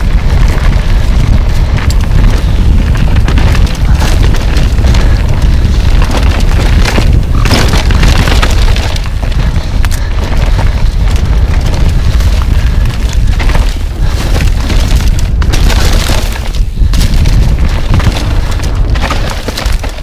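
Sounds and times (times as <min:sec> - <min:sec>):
bike knocking and rattling: 0:00.0 - 0:20.0
wind buffeting microphone: 0:00.0 - 0:20.0.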